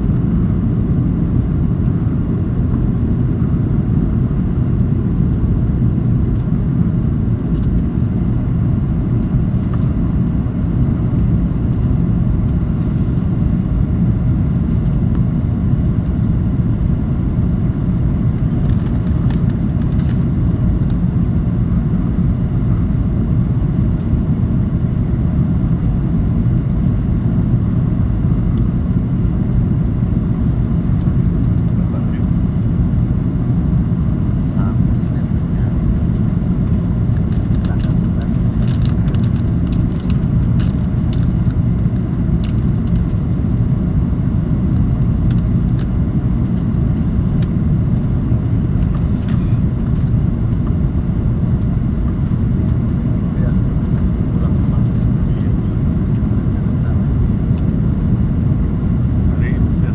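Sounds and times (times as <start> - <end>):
airliner engine rumble: 0.0 - 59.9.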